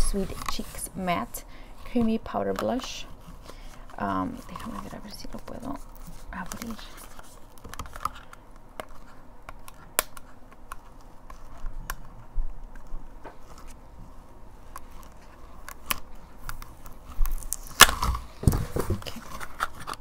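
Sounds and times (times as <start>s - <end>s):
hands handling plastic packaging: 0.0s - 20.0s.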